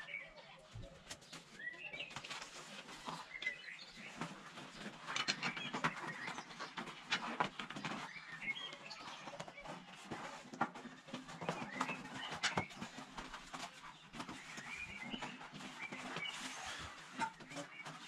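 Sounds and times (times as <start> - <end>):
birds chirping: 0.0 - 18.0
rubber tyre rubbing and rustling: 1.2 - 18.0.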